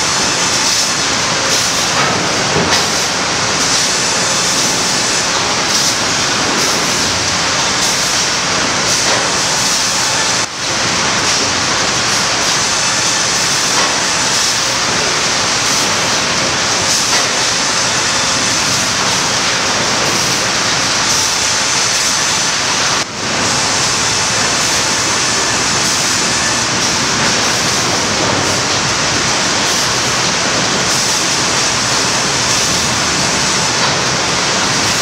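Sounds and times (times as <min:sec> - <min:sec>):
sawmill conveyor machinery: 0:00.0 - 0:35.0.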